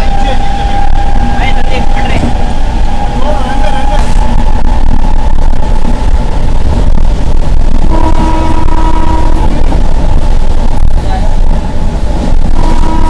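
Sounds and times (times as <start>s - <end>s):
passenger train running: 0.0s - 13.0s
wind buffeting microphone: 0.0s - 13.0s.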